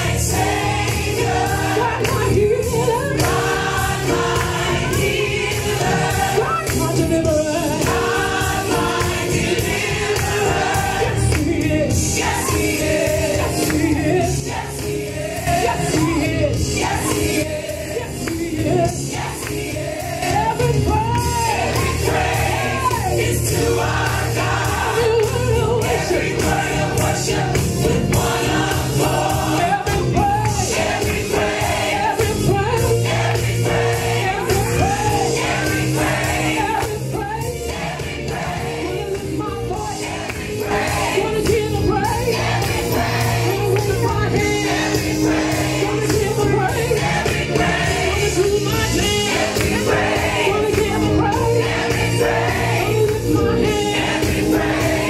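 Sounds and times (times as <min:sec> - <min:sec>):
gospel music with choir: 0:00.0 - 0:55.0.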